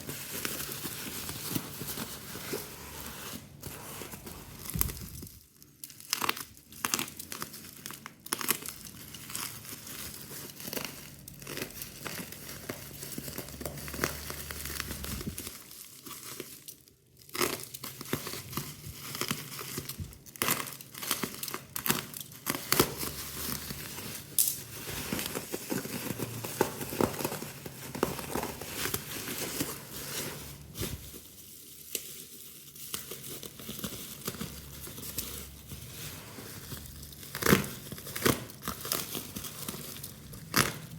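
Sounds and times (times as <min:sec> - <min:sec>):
packaging rustling and crackling: 0:00.0 - 0:40.9.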